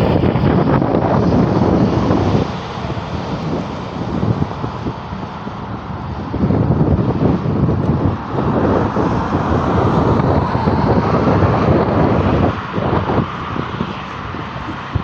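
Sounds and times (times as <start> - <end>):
heavy trucks driving past: 0.0 - 15.0.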